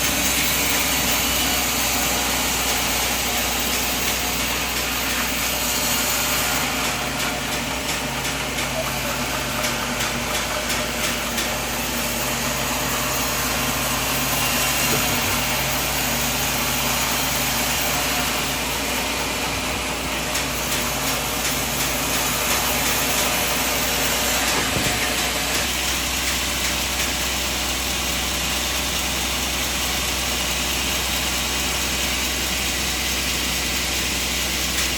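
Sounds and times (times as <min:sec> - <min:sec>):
sawmill machinery drone: 0:00.0 - 0:34.9.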